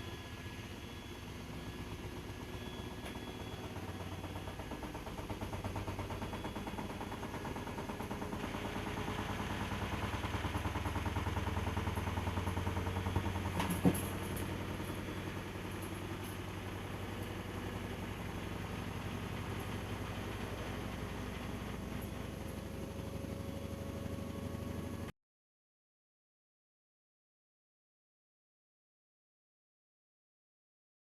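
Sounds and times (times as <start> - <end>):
washing machine motor hum: 0.0 - 25.1.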